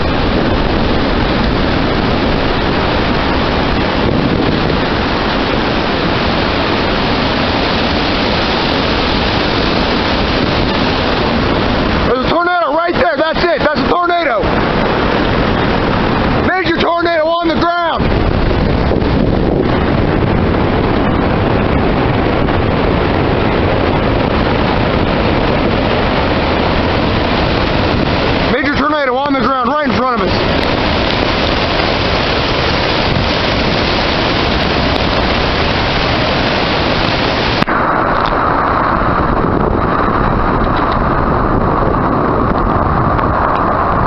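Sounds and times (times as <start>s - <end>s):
storm wind rushing: 0.0s - 44.0s.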